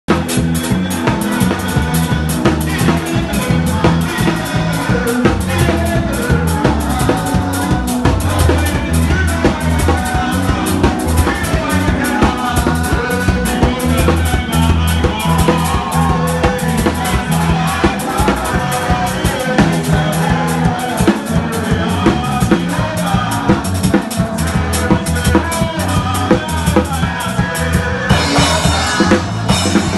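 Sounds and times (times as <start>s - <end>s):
drum kit playing a beat: 0.0s - 29.9s
choir singing: 0.2s - 26.4s, 27.0s - 29.9s.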